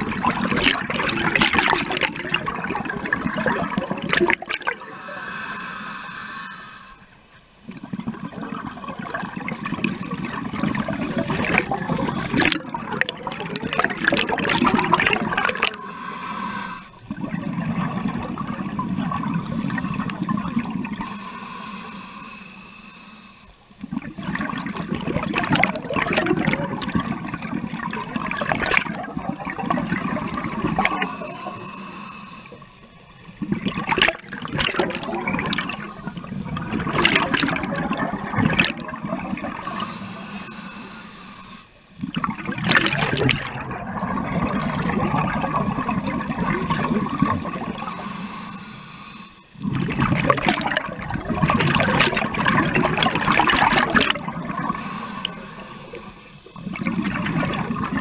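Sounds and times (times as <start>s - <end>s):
scuba exhaled bubbles gurgling: 0.0s - 22.4s, 23.1s - 58.0s.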